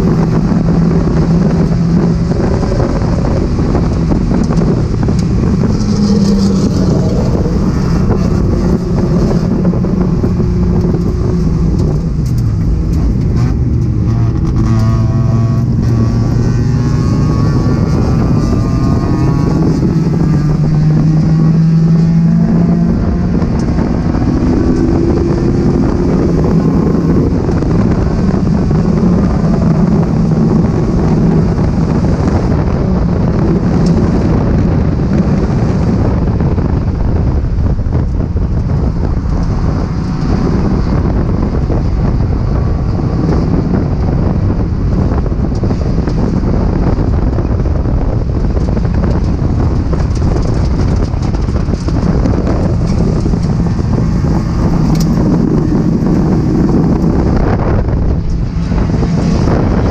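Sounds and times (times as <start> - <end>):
race car engine running: 0.0 - 59.9
wind buffeting microphone: 0.0 - 59.9.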